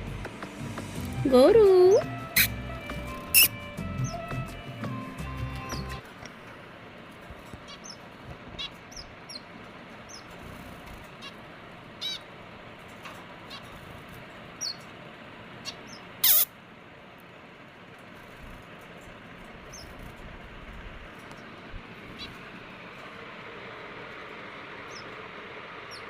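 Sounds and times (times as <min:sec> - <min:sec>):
birds chirping: 0:00.0 - 0:06.6, 0:07.3 - 0:16.5, 0:19.4 - 0:20.4, 0:21.1 - 0:23.6, 0:24.2 - 0:26.0.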